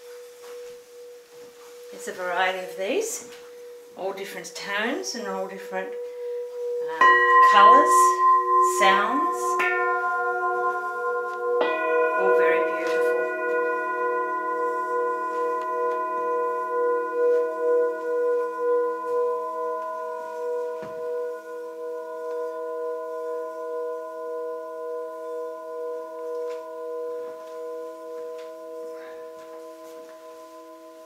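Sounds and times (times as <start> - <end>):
rubbed bowl singing with wobble: 0.0 - 31.0
singing bowls ringing: 0.0 - 31.0.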